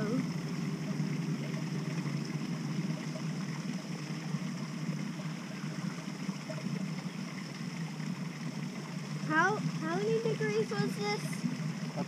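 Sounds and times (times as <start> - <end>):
water flowing in a stone pool: 0.0 - 12.0.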